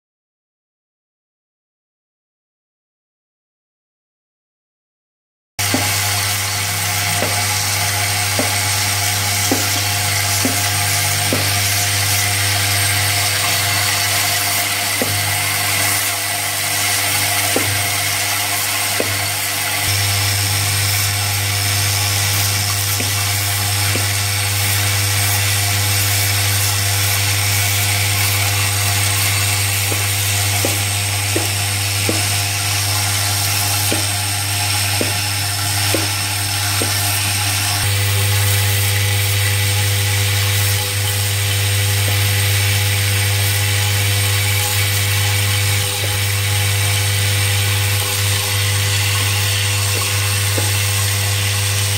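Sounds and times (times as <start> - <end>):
bowl feeder humming: 5.6 - 51.9.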